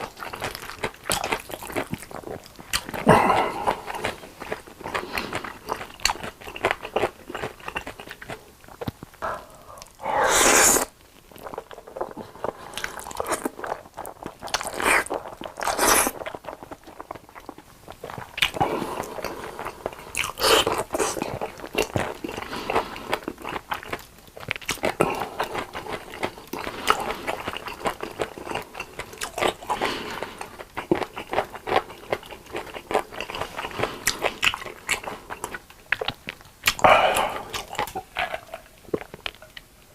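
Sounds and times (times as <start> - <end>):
person chewing crunchy food: 0.0 - 39.8.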